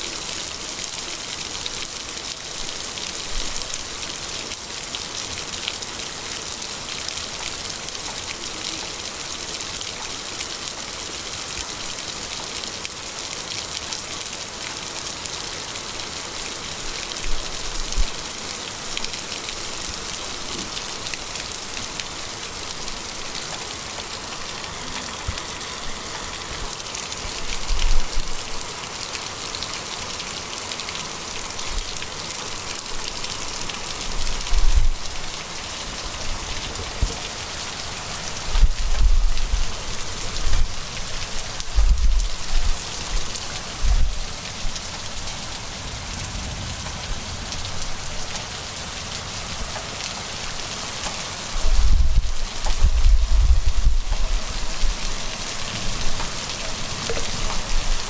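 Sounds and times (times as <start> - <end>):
rain pattering on wet pavement: 0.0 - 58.0.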